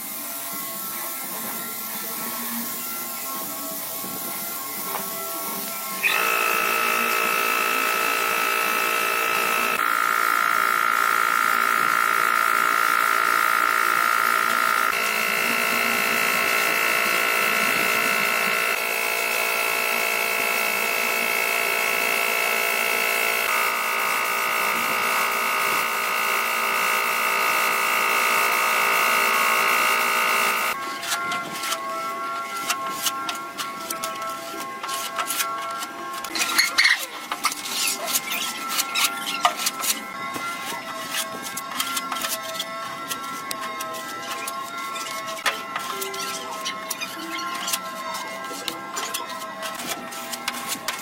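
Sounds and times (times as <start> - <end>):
small electric motor whining: 0.3 - 51.0.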